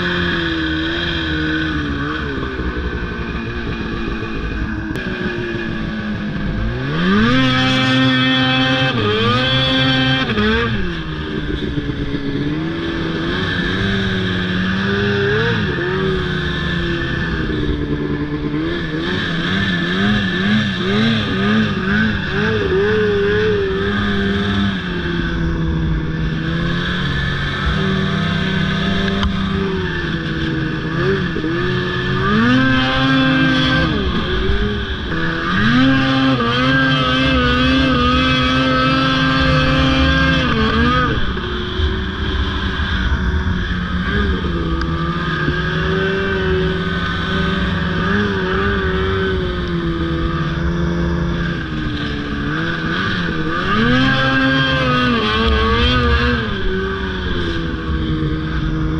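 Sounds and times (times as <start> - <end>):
snowmobile engine revving: 0.0 - 58.9.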